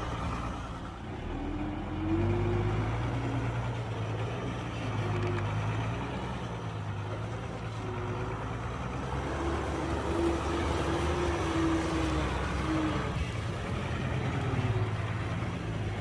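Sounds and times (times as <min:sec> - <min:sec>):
diesel machinery engine drone: 0:00.0 - 0:16.0.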